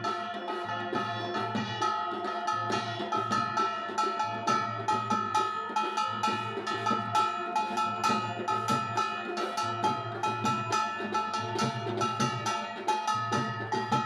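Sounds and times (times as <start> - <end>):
clanging metal percussion: 0.0 - 14.0
drums: 0.0 - 14.0.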